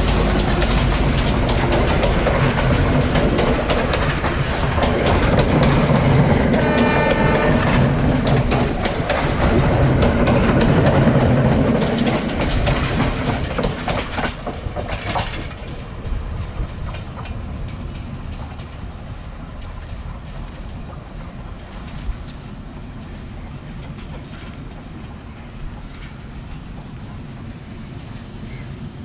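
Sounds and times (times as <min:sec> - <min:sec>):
diesel train engine rumbling: 0:00.0 - 0:29.0
train wheels clattering: 0:00.0 - 0:29.0.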